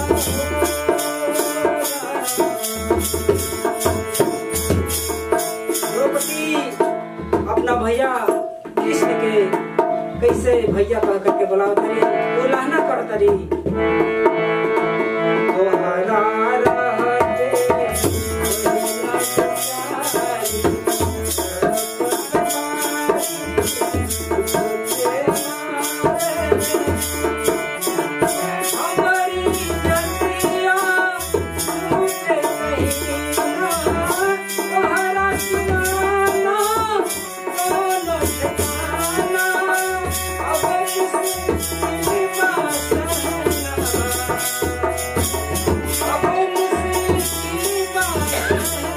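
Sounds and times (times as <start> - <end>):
man singing: 0.0 - 13.8, 15.4 - 48.9
harmonium chords: 0.0 - 48.9.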